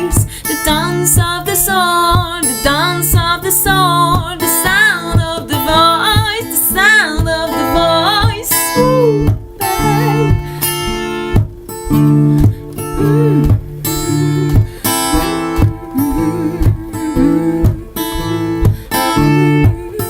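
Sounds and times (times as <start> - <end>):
person singing with wavering pitch: 0.0 - 11.2, 12.6 - 20.0
strummed acoustic guitar: 0.0 - 20.0.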